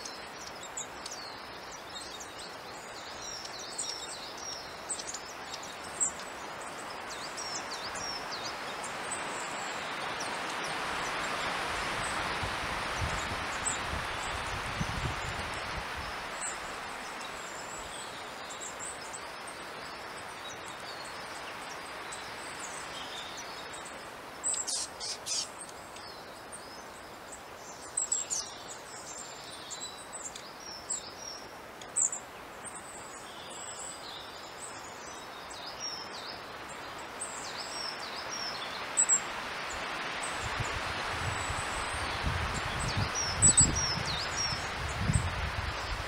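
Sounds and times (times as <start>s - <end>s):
small birds calling: 0.0s - 46.0s.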